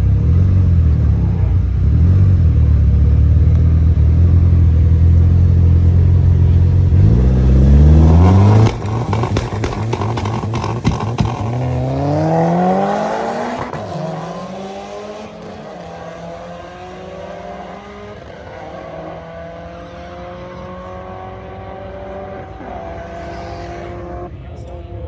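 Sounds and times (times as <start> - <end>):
drag racing car accelerating: 0.0 - 24.5
gear change: 0.2 - 24.3.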